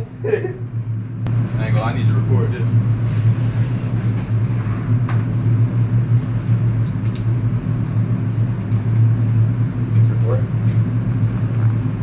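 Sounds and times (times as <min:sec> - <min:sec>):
low droning hum: 0:00.0 - 0:12.0.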